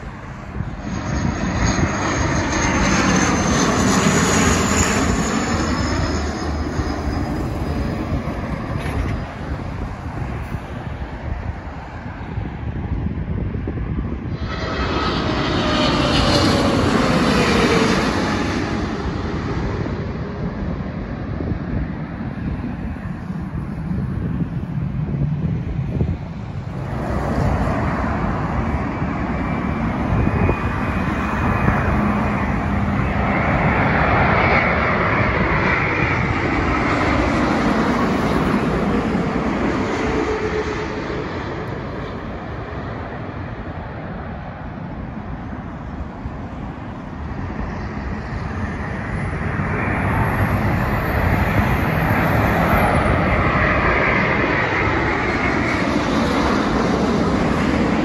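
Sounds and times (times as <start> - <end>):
faint high jet whine: 0.0 - 58.0
jet airliners passing overhead: 0.0 - 58.0
road traffic hum: 0.0 - 58.0.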